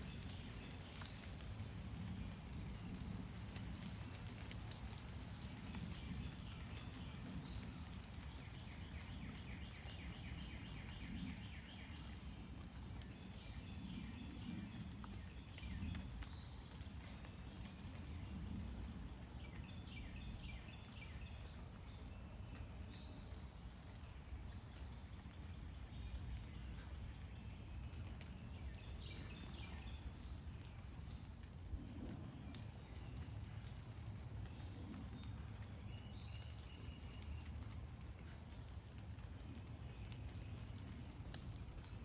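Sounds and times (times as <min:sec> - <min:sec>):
low outdoor rumble: 0:00.0 - 0:42.0.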